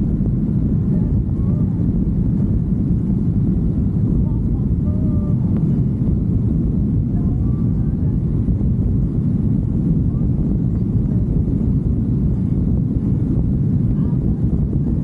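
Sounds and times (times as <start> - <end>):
wind rush: 0.0 - 15.0.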